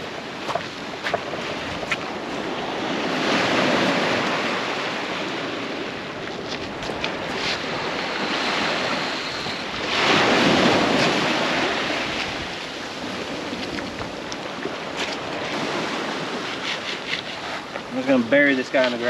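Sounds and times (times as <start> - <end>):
ocean surf on shore: 0.0 - 19.0
wind buffeting microphone: 0.0 - 19.0.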